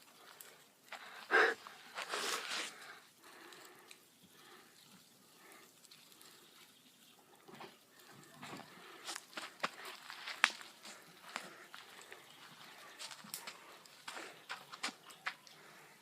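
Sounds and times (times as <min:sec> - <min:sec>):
large bonfire crackling: 0:00.0 - 0:16.0.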